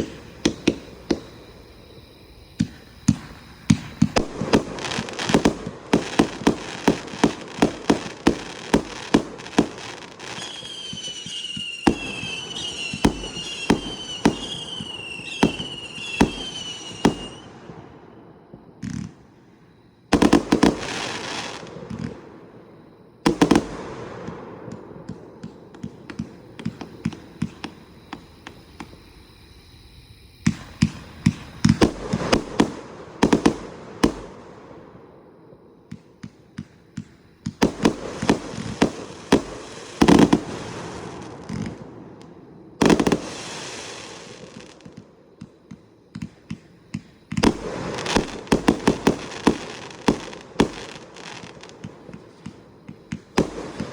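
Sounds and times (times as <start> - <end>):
firework bangs and pops: 0.0 - 1.4, 2.6 - 17.8, 20.1 - 22.2, 23.2 - 28.9, 30.5 - 34.3, 35.8 - 53.9
hissing crackle of fireworks: 0.0 - 53.9.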